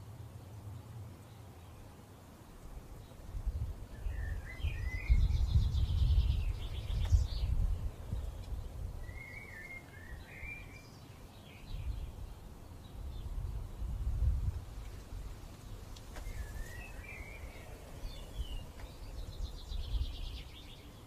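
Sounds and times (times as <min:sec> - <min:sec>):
small birds chirping: 0:00.0 - 0:21.0
wind rumble on microphone: 0:02.7 - 0:10.8, 0:11.4 - 0:21.0.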